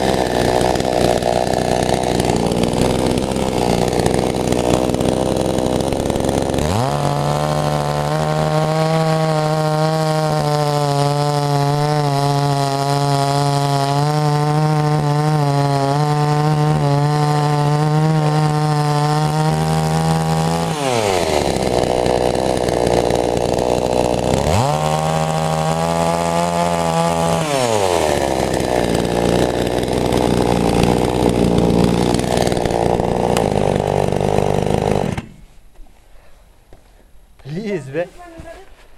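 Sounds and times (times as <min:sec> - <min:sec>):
chainsaw engine revving: 0:00.0 - 0:35.5.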